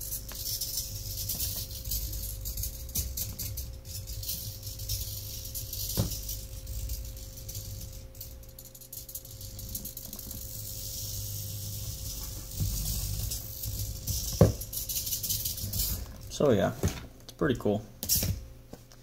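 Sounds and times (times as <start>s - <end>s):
servos buzzing and chattering: 0.0s - 16.5s.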